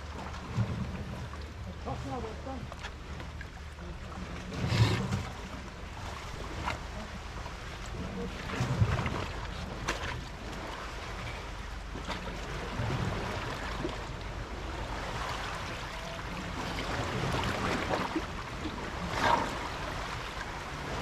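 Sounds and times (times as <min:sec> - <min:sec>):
water lapping against rocks: 0:00.0 - 0:21.0
wind rumble on microphone: 0:00.0 - 0:21.0.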